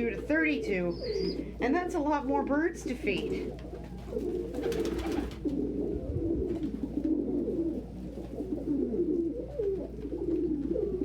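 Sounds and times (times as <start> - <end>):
pigeons cooing: 0.0 - 2.0, 2.8 - 11.0.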